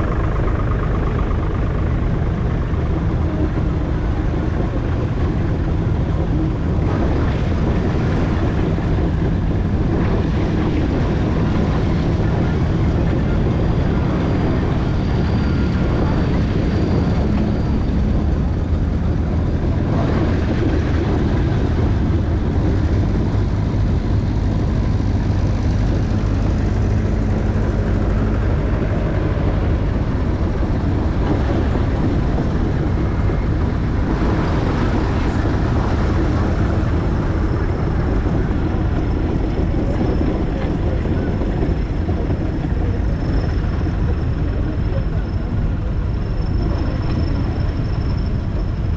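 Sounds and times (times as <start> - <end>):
steam traction engine rumbling: 0.0 - 48.9.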